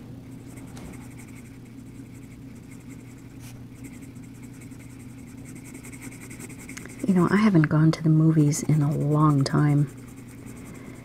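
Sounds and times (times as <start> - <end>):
pencil scratching on paper: 0.3 - 11.0.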